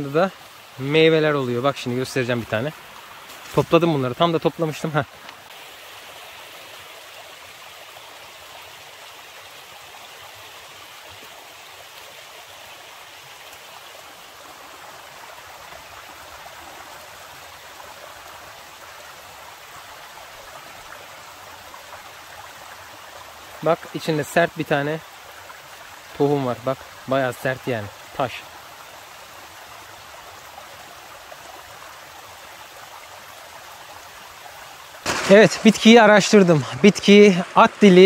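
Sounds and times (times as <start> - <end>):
stream flowing: 0.0 - 38.0.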